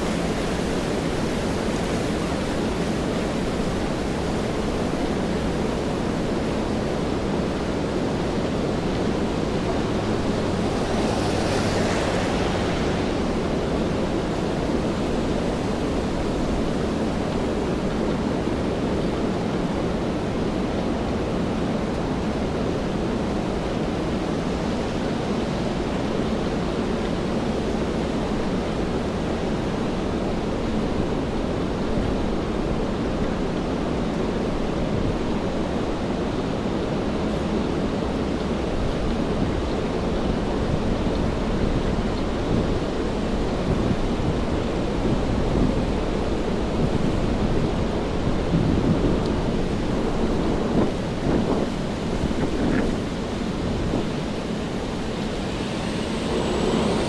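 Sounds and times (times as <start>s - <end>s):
rain on streets: 0.0s - 57.0s.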